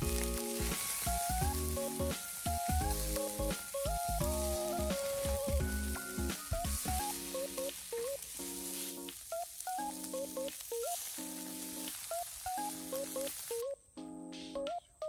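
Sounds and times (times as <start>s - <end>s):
food sizzling: 0.0s - 13.6s
background music: 0.0s - 15.0s.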